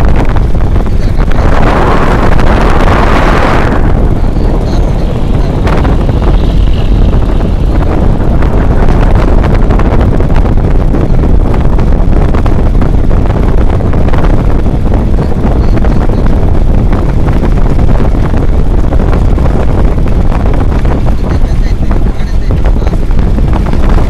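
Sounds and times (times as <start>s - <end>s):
vehicle running noise: 0.0s - 24.0s
wind buffeting microphone: 0.0s - 24.0s.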